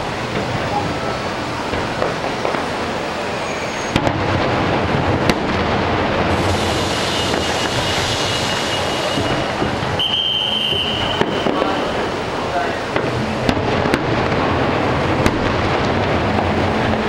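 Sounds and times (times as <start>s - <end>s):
dense fireworks bursts: 0.0s - 17.0s
fireworks bangs: 0.0s - 17.0s.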